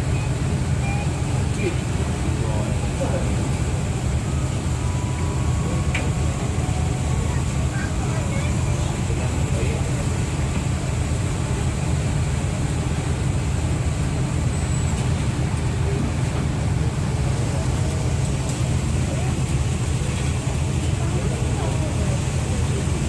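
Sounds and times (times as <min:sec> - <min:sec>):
faint voices: 0:00.0 - 0:23.0
ferry engines rumbling: 0:00.0 - 0:23.0.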